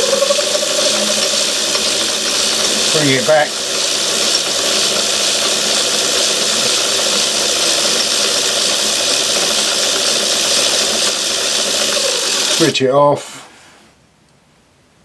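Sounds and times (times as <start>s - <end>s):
lathe running: 0.0s - 12.8s.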